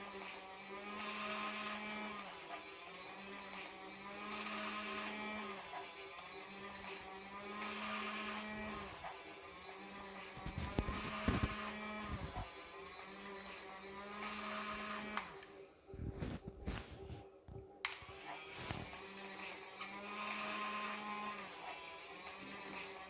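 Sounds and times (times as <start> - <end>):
small electric motor whirring: 0.0 - 17.0, 17.9 - 23.0.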